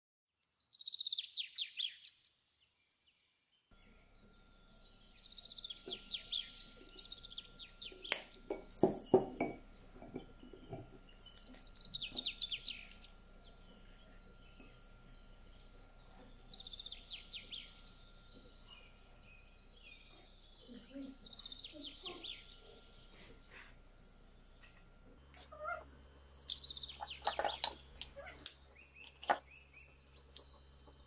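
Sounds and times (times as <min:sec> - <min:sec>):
bird chirping in trills: 0:03.7 - 0:31.0.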